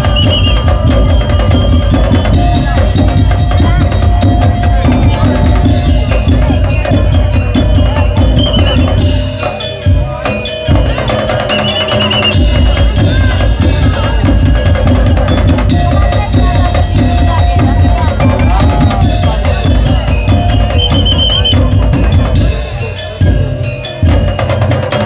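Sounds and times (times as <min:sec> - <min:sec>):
driving drums: 0:00.0 - 0:25.0.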